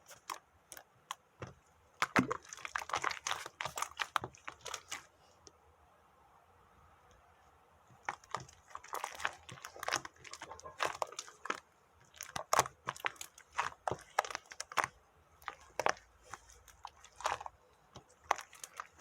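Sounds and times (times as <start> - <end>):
crunching and crinkling: 0.0 - 5.2, 7.9 - 19.0.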